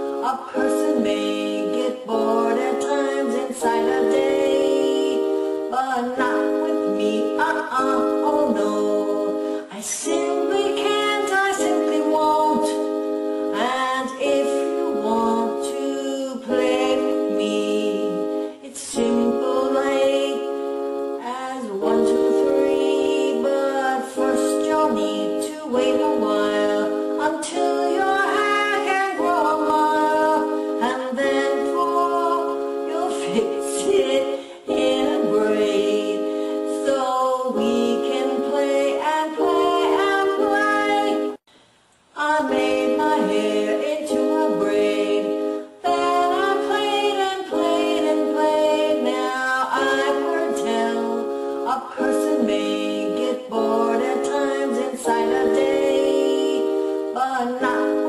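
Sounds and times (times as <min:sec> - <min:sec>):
woman singing: 0:00.0 - 0:41.5, 0:42.2 - 0:58.0
electronic keyboard chords: 0:00.0 - 0:58.0.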